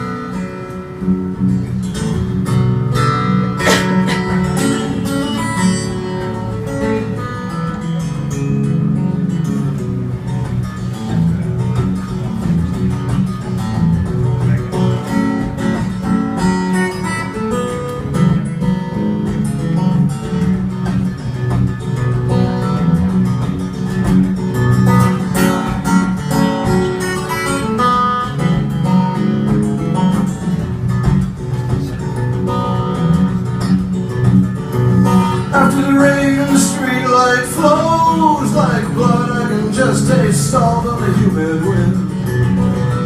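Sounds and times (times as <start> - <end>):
acoustic guitar plucking: 0.0 - 43.0.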